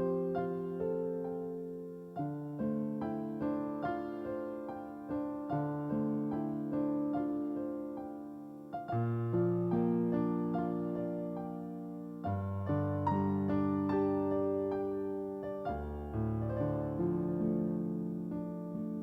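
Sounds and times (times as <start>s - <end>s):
slow gentle piano piece: 0.0s - 19.0s.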